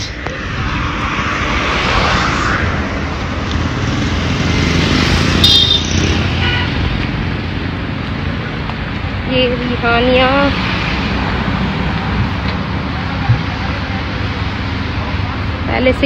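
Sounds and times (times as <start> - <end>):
street traffic roar: 0.0 - 16.0.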